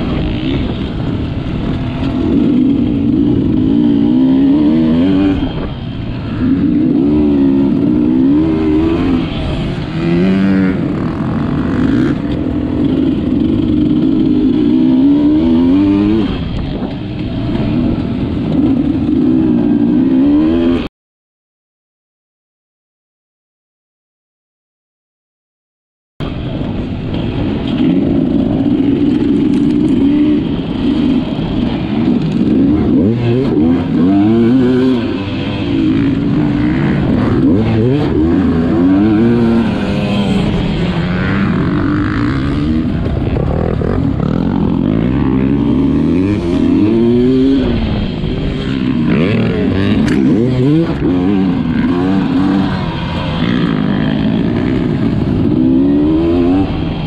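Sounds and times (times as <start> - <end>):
motorcycle engine revving: 0.0 - 20.9, 26.2 - 57.0.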